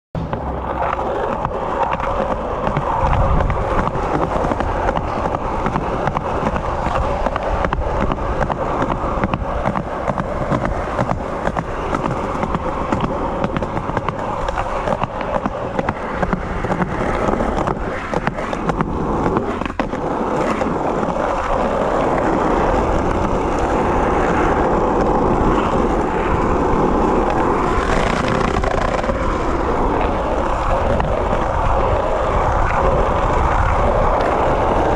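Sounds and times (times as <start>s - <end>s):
skateboard clicks and clacks: 0.2s - 34.9s
skateboard wheels rolling on pavement: 0.2s - 34.9s.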